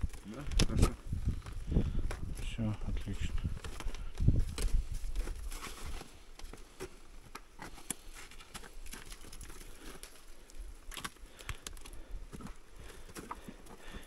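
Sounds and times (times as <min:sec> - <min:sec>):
footsteps on ice and stones: 0:00.0 - 0:14.0.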